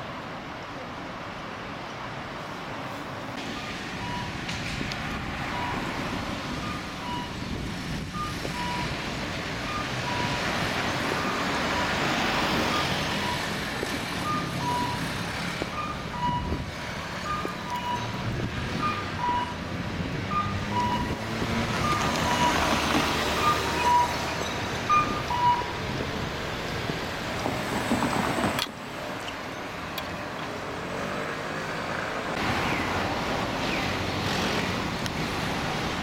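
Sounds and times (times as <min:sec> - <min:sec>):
passing road traffic: 0:00.0 - 0:36.0.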